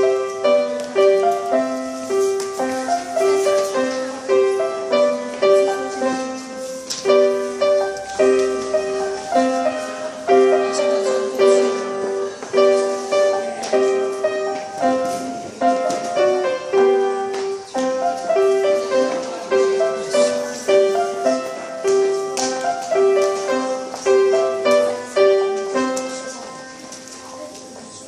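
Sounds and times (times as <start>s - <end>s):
simple piano piece: 0.0s - 28.0s.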